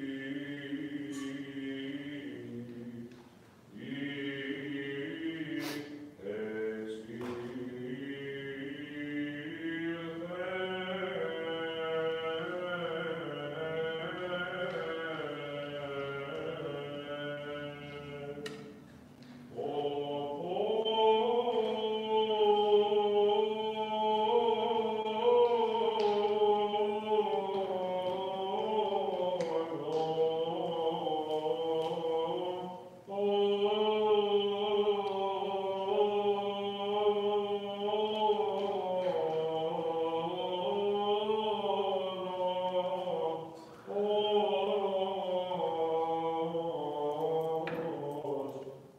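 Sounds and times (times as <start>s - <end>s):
chant singing: 0.0s - 48.9s.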